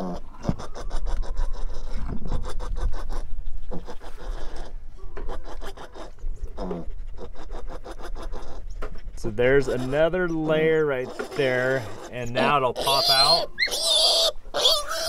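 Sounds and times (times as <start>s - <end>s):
scratching and rubbing noises: 0.0s - 13.4s.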